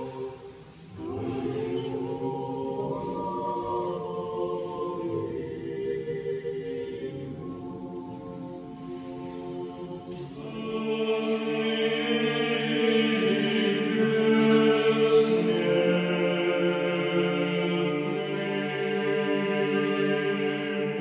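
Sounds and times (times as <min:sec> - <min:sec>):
choir singing long-held chords: 0:00.0 - 0:21.0.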